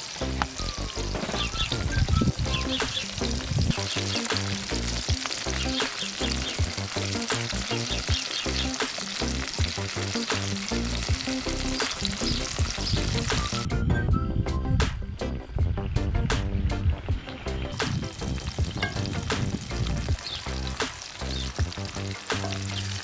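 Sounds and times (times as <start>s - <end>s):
food sizzling in a pan: 0.0s - 13.7s, 17.2s - 23.0s
background music: 0.0s - 23.0s.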